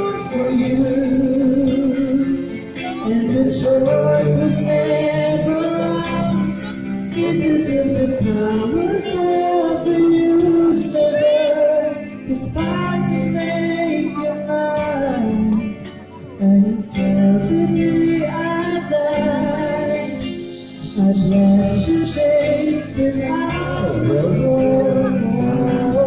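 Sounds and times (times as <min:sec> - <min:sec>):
instrumental backing: 0:00.0 - 0:26.0
song with wavering sung vocals: 0:00.0 - 0:26.0.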